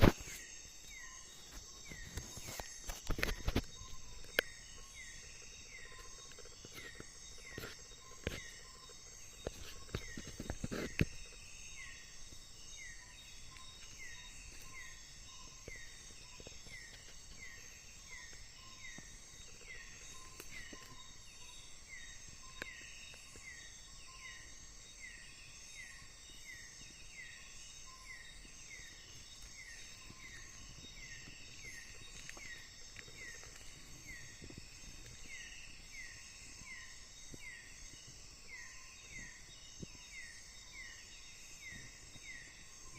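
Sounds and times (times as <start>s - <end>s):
high drone of insects: 0.0s - 42.9s.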